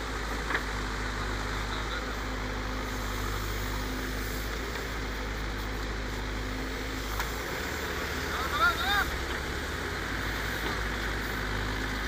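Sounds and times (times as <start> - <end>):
diesel engines running: 0.0 - 12.0.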